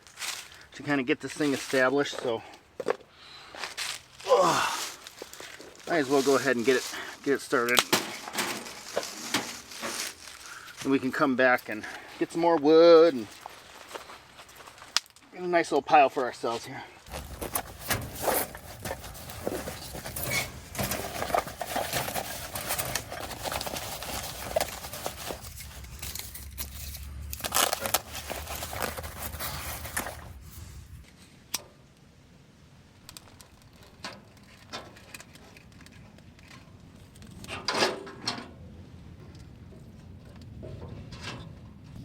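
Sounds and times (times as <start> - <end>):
rustling and crinkling: 0.0 - 15.4, 16.1 - 31.5, 32.9 - 42.0.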